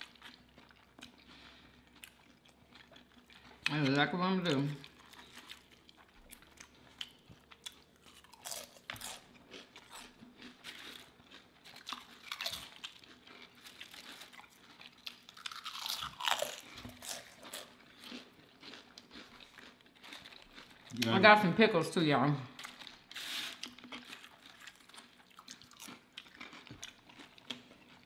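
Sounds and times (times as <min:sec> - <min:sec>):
potato chips crunching: 0:00.0 - 0:21.2, 0:22.6 - 0:28.0
chewing food: 0:00.0 - 0:21.4, 0:22.5 - 0:28.0.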